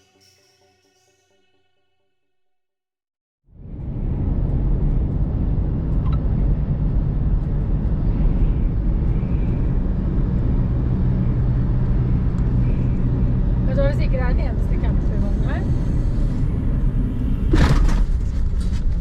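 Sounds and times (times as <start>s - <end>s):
car engine and tyre drone: 3.5s - 19.0s.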